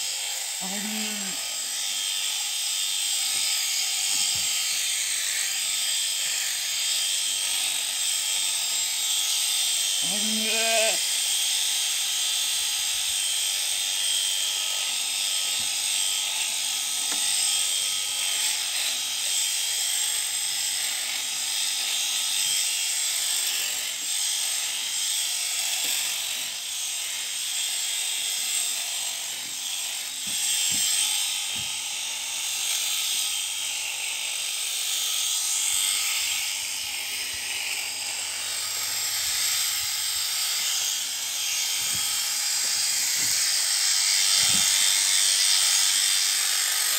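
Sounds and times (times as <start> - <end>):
electric shears buzzing: 0.0 - 46.9.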